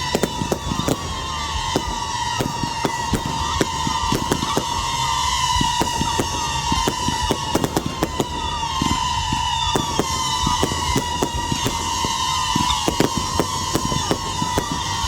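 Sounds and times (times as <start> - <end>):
fireworks bangs and crackles: 0.0 - 15.0
steady whistling tone: 0.0 - 15.0.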